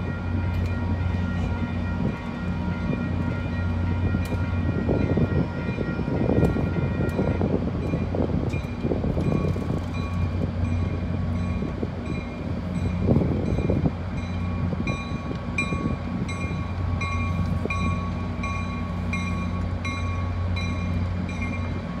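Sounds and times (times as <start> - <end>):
railroad crossing bell ringing: 0.0 - 22.0
train droning: 0.0 - 22.0.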